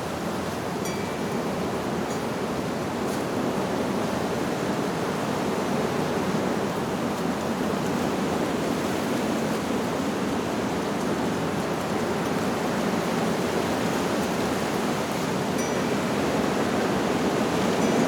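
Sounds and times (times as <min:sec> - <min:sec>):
wind rustling leaves: 0:00.0 - 0:18.0.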